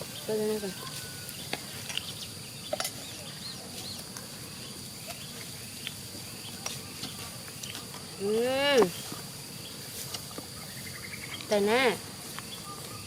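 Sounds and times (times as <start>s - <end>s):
faint bird chirps: 0.0s - 11.7s, 12.3s - 13.0s
high insect drone: 0.0s - 13.0s.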